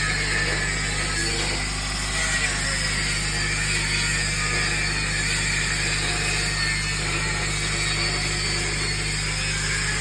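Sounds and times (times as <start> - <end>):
welding arc buzzing and hissing: 0.0 - 10.0.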